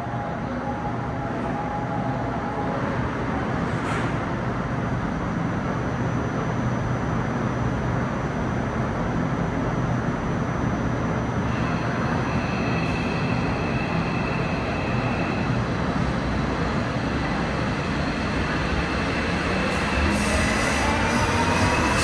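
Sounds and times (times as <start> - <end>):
subway train equipment hum: 0.0 - 22.0
train inverter high whine: 0.0 - 22.0.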